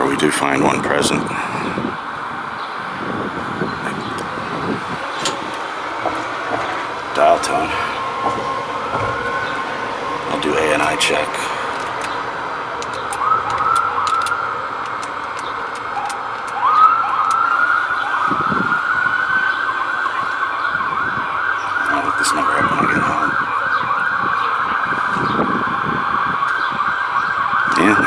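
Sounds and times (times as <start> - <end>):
emergency vehicle siren: 0.0 - 28.0.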